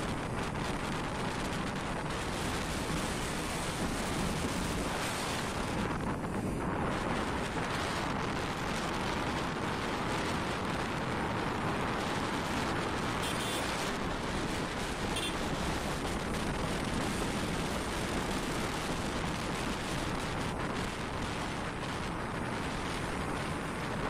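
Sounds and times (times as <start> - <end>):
motorcycle engine and road noise: 0.0 - 24.0
wind buffeting microphone: 0.0 - 24.0.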